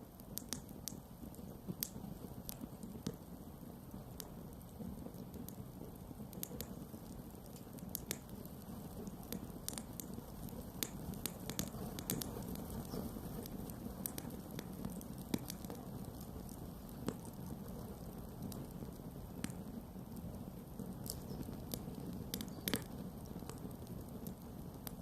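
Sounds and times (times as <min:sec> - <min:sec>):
campfire crackles and pops: 0:00.0 - 0:25.0.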